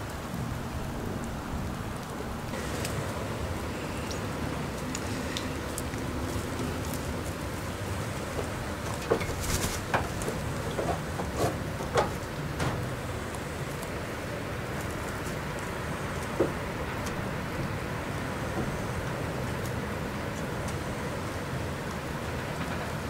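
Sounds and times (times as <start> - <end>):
steady rain pattering: 0.0 - 23.0.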